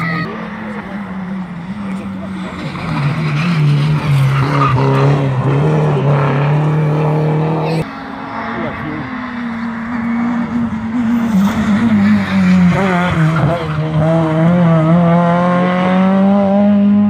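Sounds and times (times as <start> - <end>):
rally car engine at high revs: 0.2 - 17.0.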